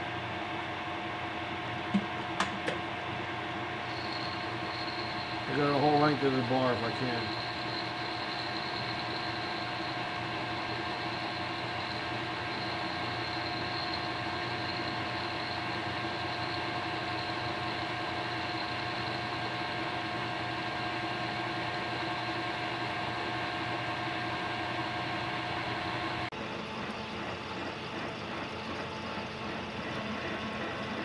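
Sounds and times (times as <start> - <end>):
metal lathe humming and whining: 3.7 - 31.0.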